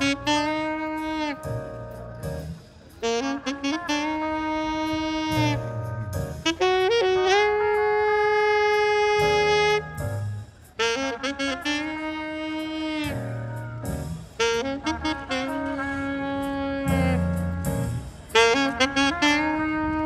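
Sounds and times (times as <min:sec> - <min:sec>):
saxophone jazz melody: 0:00.0 - 0:20.0.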